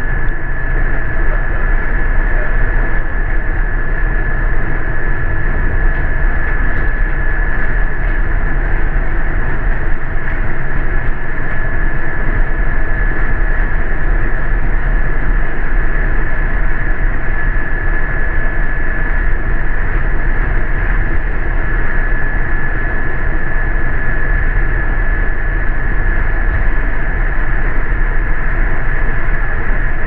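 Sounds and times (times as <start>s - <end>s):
bus engine and road rumble: 0.0s - 30.0s
high whine: 0.0s - 30.0s.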